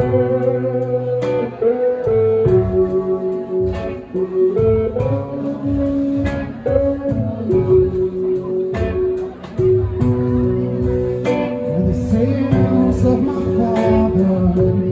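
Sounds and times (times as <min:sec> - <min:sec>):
drums and cymbal hits: 0:00.0 - 0:14.9
electric guitar chords: 0:00.0 - 0:14.9
keyboard chords: 0:00.0 - 0:14.9.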